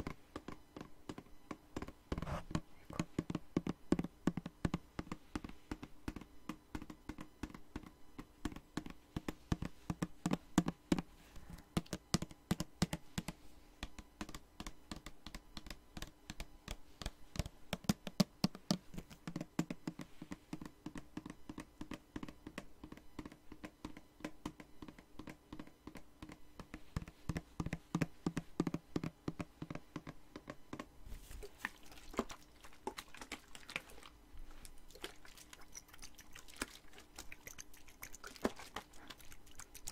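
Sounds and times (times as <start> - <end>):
fingers tapping on spray bottle: 0.0 - 30.9, 34.9 - 39.9.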